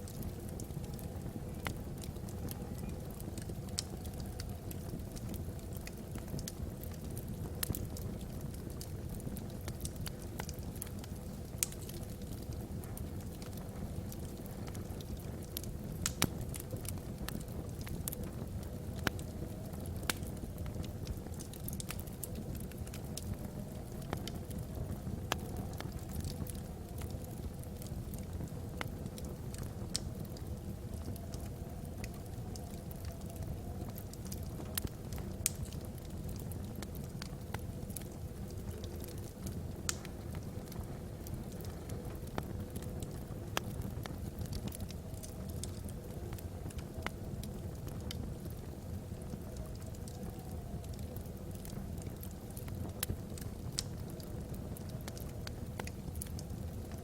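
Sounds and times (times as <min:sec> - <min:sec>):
fire low rumble: 0:00.0 - 0:57.0
wood fire crackling and popping: 0:00.0 - 0:57.0.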